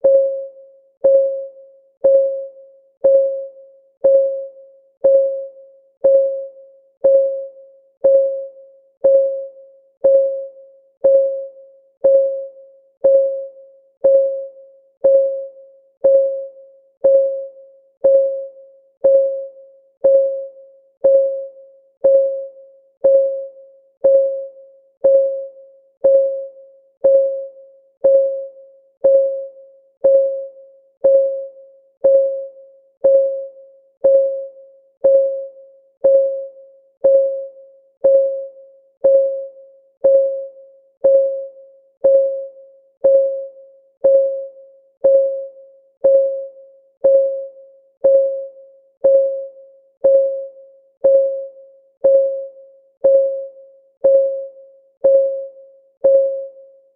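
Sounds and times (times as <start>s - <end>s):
timer clock ticking: 0.0s - 56.6s.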